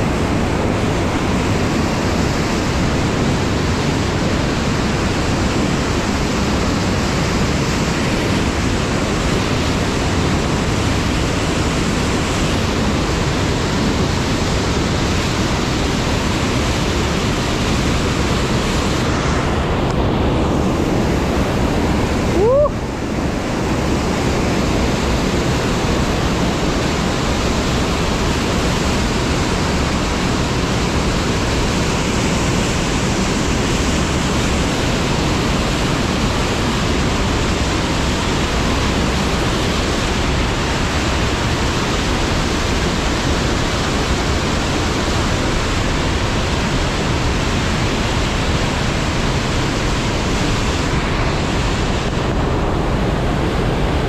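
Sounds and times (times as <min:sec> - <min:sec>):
stream and waterfall rushing: 0:00.0 - 0:54.0.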